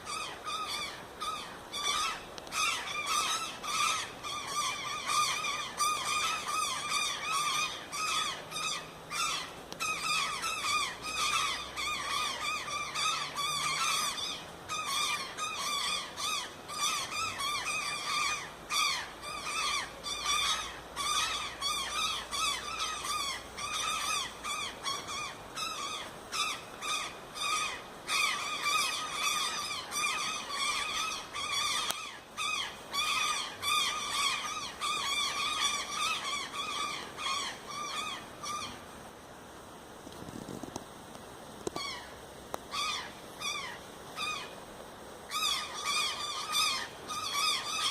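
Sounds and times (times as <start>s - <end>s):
many birds chirping: 0.0s - 38.8s, 45.3s - 47.9s.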